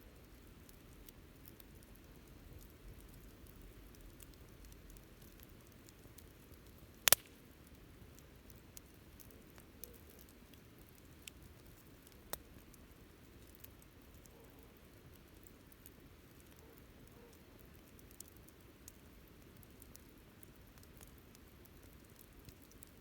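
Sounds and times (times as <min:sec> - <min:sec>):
bonfire crackling: 0:00.0 - 0:23.0
fire popping: 0:00.1 - 0:23.0.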